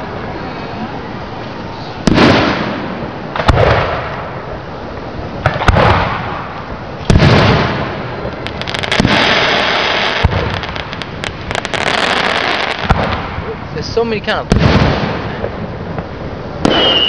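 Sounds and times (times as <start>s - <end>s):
dense crackling hiss: 0.0s - 17.0s
fireworks booming: 1.8s - 17.0s.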